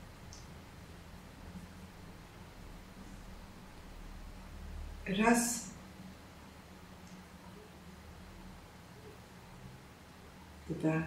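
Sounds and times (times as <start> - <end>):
light hiss: 0.0 - 10.9.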